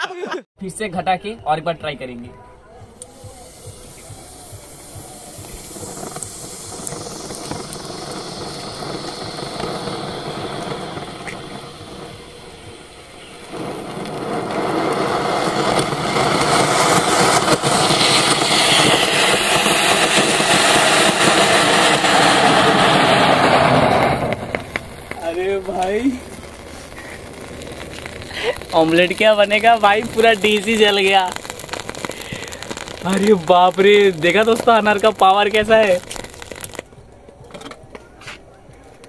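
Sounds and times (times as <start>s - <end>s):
firework fountain rushing sparks: 2.9s - 39.0s.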